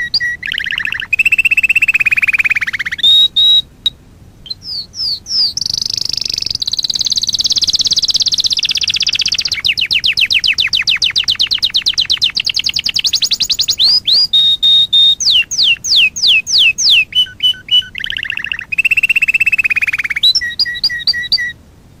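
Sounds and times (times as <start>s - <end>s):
canary singing: 0.0s - 21.6s.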